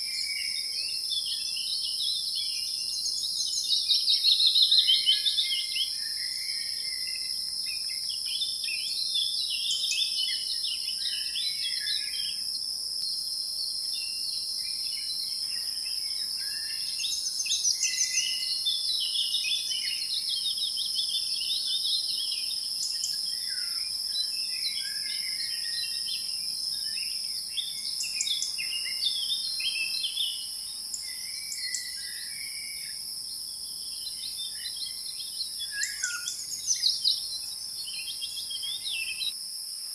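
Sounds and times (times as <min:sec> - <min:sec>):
small birds chirping: 0:00.0 - 0:39.4.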